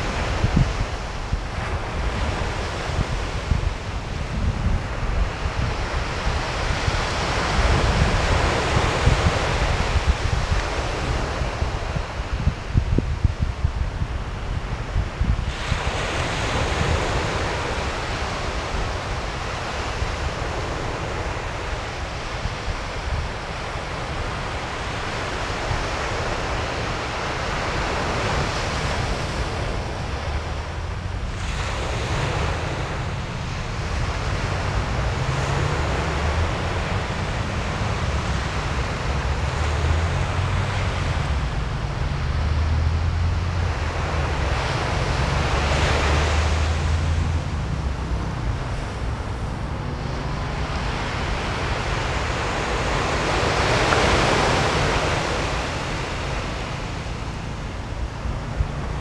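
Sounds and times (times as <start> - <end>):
waves washing on shore: 0.0 - 59.0
wind buffeting microphone: 0.0 - 59.0.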